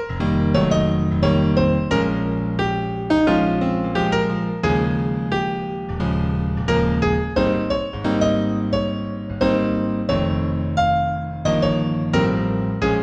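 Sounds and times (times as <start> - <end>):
slow synthesized piano melody: 0.0 - 13.0.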